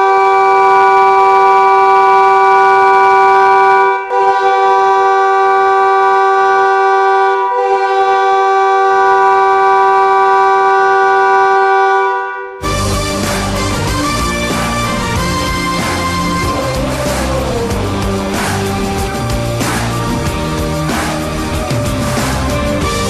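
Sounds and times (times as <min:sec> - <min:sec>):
multi-tone air horn: 0:00.0 - 0:23.0.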